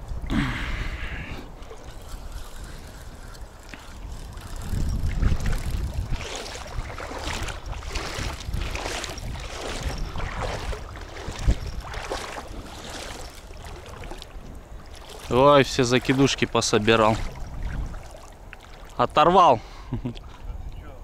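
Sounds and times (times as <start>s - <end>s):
wind buffeting microphone: 0.0s - 19.1s, 20.2s - 21.0s
water swishing: 0.8s - 19.3s.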